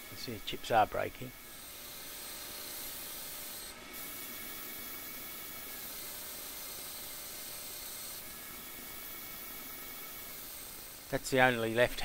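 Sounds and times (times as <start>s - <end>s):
lathe spindle whine: 0.0s - 12.0s.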